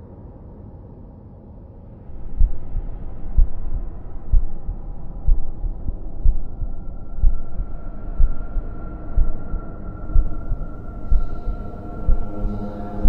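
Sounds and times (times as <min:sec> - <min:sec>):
low drone: 0:00.0 - 0:13.0
heartbeat thumps: 0:02.2 - 0:13.0.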